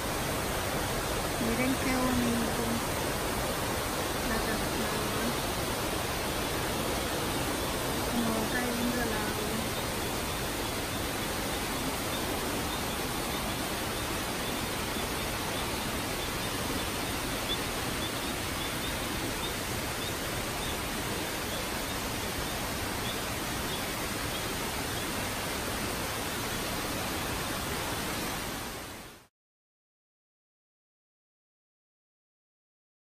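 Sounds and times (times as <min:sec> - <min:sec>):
waterfall rushing over rocks: 0:00.0 - 0:29.3.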